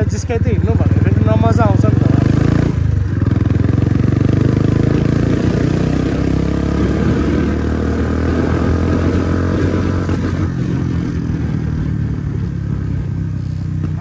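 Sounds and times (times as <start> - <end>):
motorcycle engine running: 0.0 - 14.0
road noise: 0.0 - 14.0.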